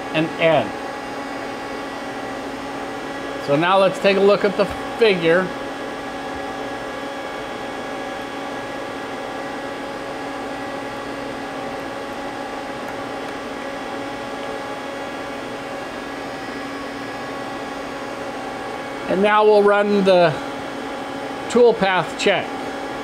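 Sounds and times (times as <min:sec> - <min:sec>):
lathe idling hum and whirr: 0:00.0 - 0:23.0.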